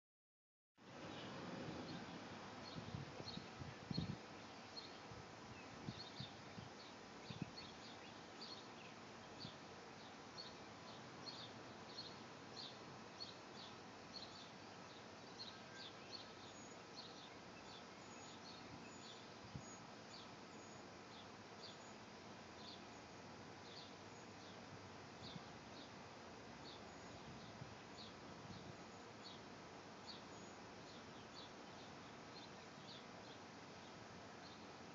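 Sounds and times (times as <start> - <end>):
small birds chirping: 0.9 - 34.9.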